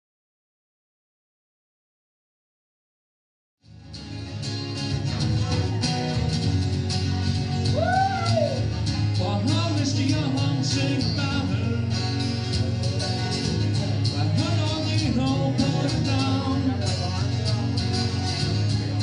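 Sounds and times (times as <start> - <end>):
steady low bass notes: 3.6 - 19.0
acoustic guitars strumming: 3.7 - 19.0.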